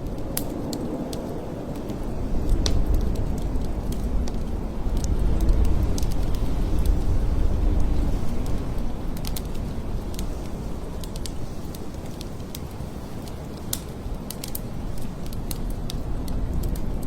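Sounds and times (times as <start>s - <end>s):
sharp crackles and ticks: 0.0s - 17.0s
wind howling in gusts: 0.0s - 17.0s.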